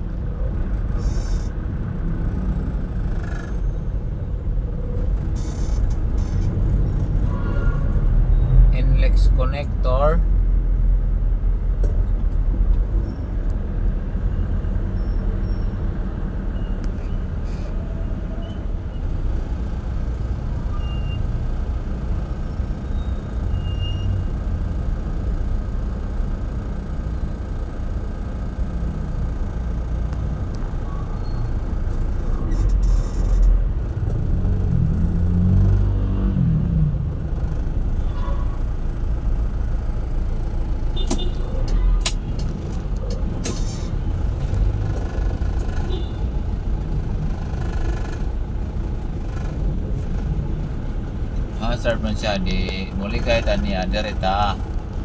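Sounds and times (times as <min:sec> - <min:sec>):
traffic engines idling: 0:00.0 - 0:35.4, 0:36.6 - 0:55.0.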